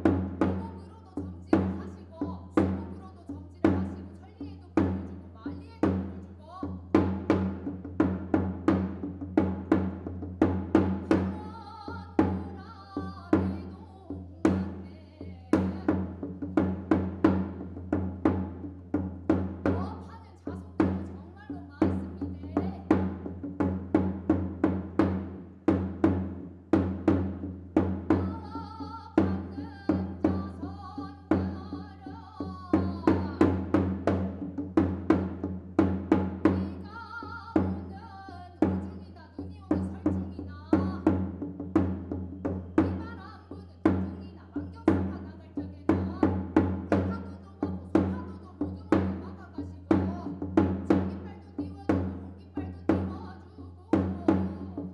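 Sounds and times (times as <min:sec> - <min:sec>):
fast drum strokes: 0:00.0 - 0:04.2, 0:04.8 - 0:54.9.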